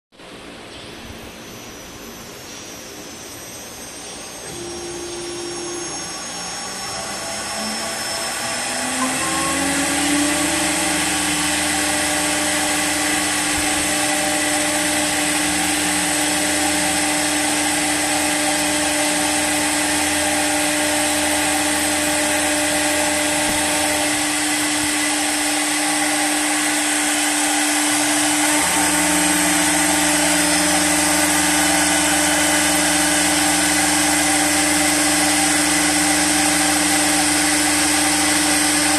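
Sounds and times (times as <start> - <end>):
lathe spindle whine and hum: 0.2 - 38.9.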